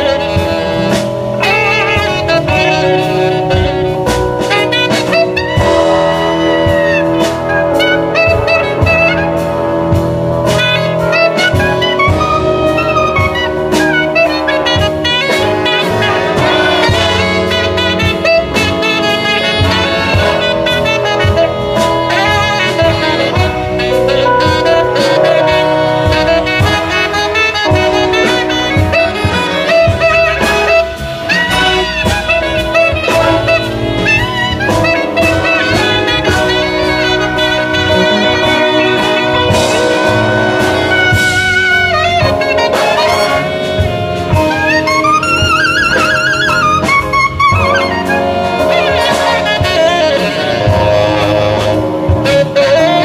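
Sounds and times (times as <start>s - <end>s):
jazz big band playing: 0.0s - 53.0s
tenor saxophone solo: 0.0s - 53.0s.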